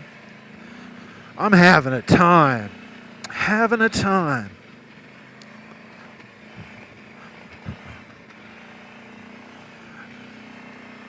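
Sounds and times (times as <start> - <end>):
faint atv engine drone: 0.0 - 11.0.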